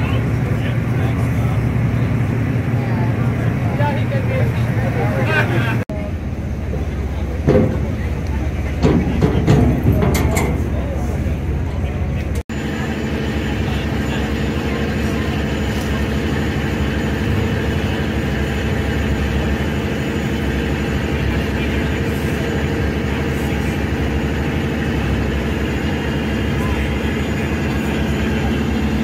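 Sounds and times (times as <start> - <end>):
diesel engines droning: 0.0 - 29.0.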